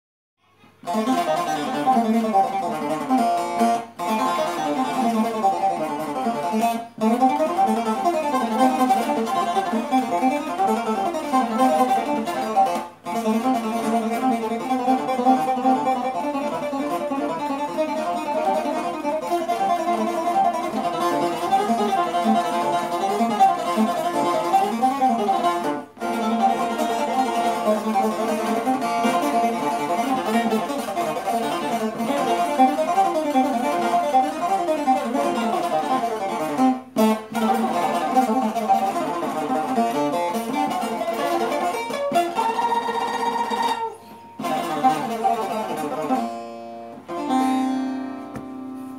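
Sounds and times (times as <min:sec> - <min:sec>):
long-necked lute melody: 0:00.4 - 0:48.9.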